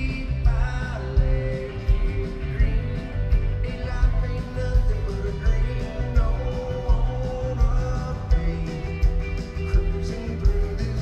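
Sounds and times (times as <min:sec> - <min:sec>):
electric guitar: 0:00.0 - 0:11.0
live country-rock band: 0:00.0 - 0:11.0
man singing lead vocal: 0:00.0 - 0:11.0
steady drum beat: 0:00.0 - 0:11.0.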